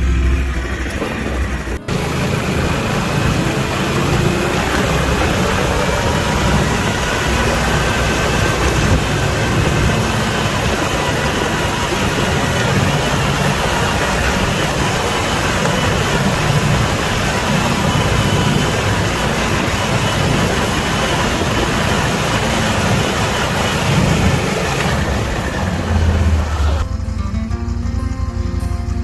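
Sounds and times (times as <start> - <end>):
snowmobile engine drone: 0.0 - 29.0.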